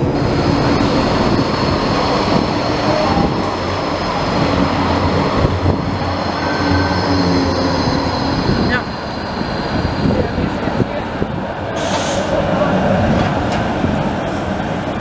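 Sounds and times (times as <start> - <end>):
tram wheels on rail: 0.0 - 15.0.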